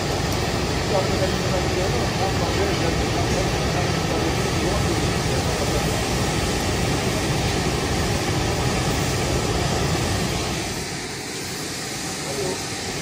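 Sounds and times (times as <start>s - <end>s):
machinery rushing hum: 0.0s - 13.0s.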